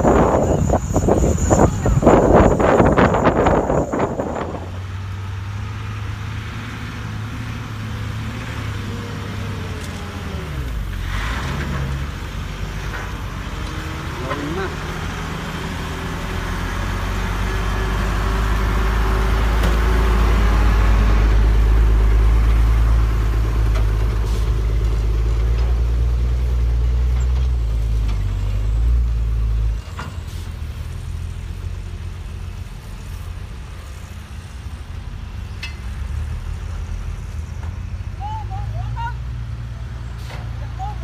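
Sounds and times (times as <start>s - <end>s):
diesel truck engine rumble: 0.0s - 41.0s.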